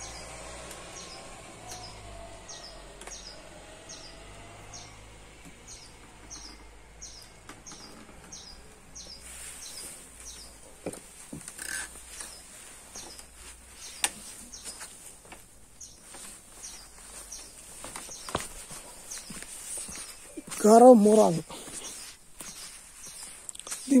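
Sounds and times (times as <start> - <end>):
small bird chirping: 0.0 - 15.1, 15.7 - 24.0.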